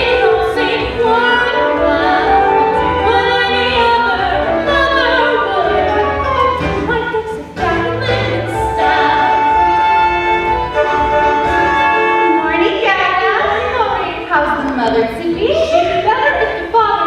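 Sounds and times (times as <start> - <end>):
musical accompaniment: 0.0 - 17.0.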